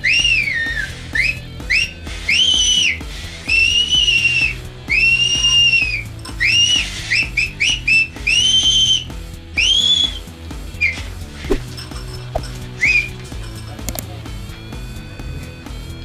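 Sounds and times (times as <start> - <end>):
shrill whistles: 0.0 - 14.2.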